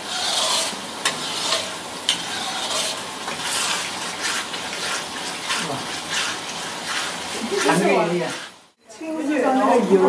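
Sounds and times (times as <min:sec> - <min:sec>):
metal spatula scraping rice in wok: 0:00.0 - 0:08.6
light sizzle: 0:00.0 - 0:08.8.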